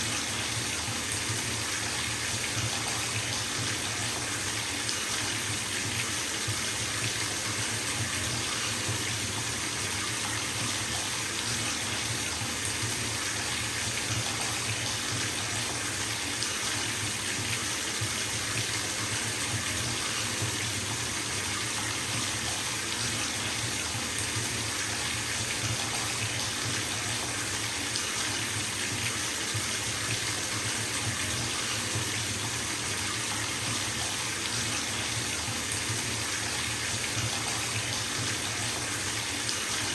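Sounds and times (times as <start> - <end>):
water running into bathtub: 0.0 - 39.9.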